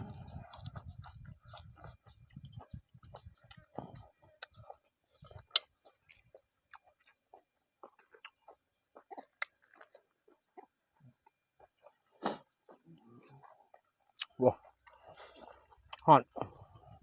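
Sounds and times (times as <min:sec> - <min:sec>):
person chewing: 0:00.0 - 0:16.8.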